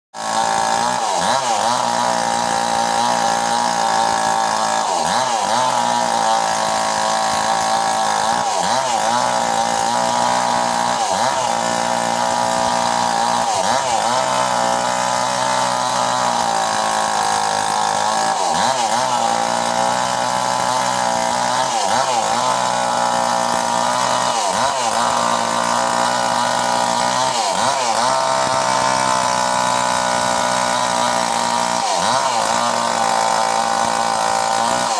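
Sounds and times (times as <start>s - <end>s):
small chainsaw running: 0.1s - 34.9s.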